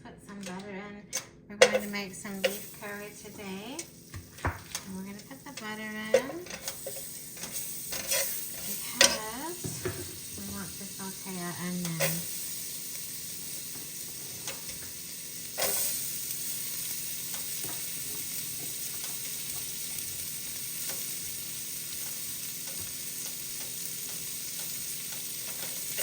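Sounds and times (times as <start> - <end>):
onions sizzling in a pot: 1.6 - 26.0.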